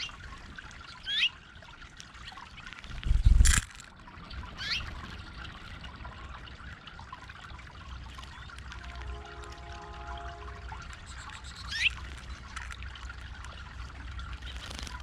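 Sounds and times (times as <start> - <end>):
water trickling over fountain: 0.0 - 15.0.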